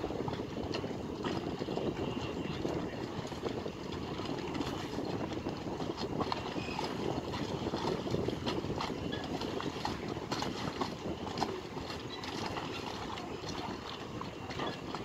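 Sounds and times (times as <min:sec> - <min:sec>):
low rumble of dockside work: 0:00.0 - 0:15.0.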